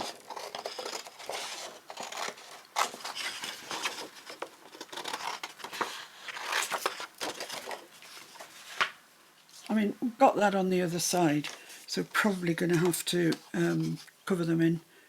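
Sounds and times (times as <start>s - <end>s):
paper rustling: 0.0s - 9.7s, 11.3s - 14.1s.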